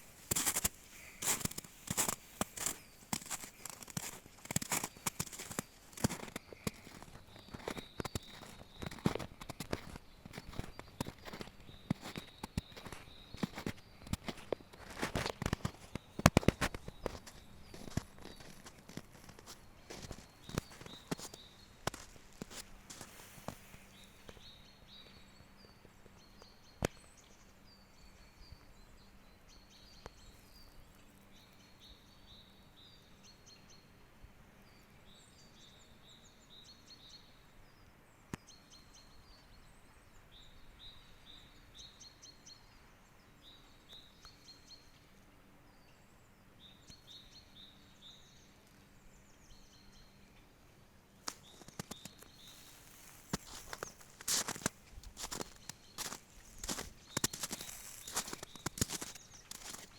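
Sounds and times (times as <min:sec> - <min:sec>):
small birds chirping: 0:00.0 - 0:33.9, 0:34.7 - 0:59.9.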